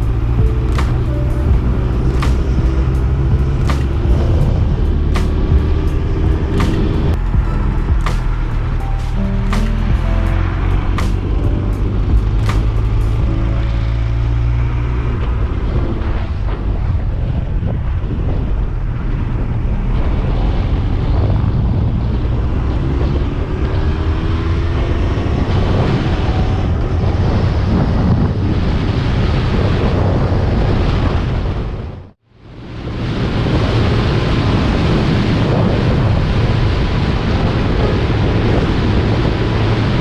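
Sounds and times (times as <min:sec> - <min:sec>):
wind buffeting microphone: 0:00.0 - 0:32.1.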